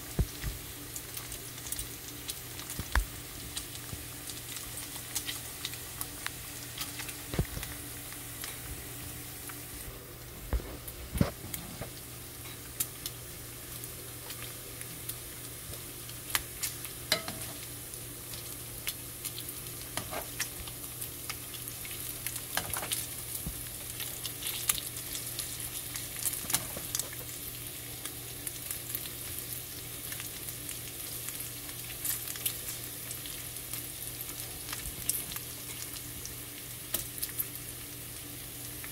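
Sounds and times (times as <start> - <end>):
bacon sizzling and popping: 0.0 - 38.9.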